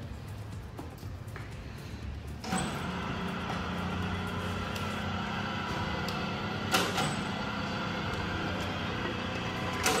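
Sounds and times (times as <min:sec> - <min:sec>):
low engine-like hum: 0:02.0 - 0:10.0.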